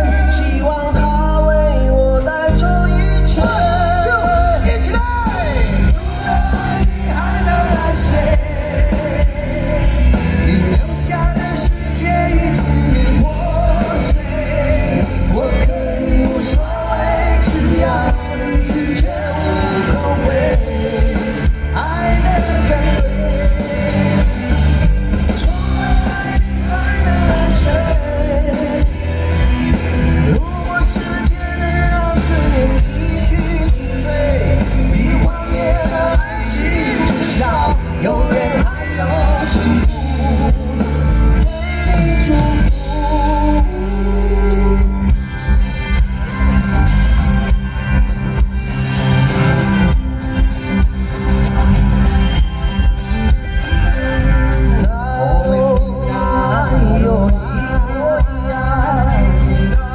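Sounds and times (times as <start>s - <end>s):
person singing: 0.0s - 45.2s, 54.0s - 59.9s
rock band playing: 0.0s - 59.9s.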